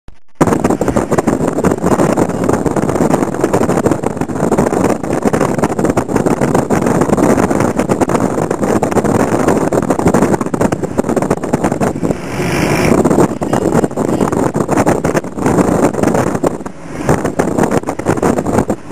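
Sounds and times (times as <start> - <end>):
car engine and road noise: 0.1 - 18.9.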